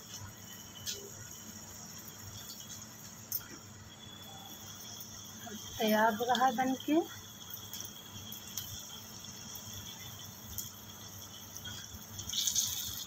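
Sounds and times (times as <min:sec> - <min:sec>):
deep-frying sizzle with crackles: 0:00.0 - 0:13.0.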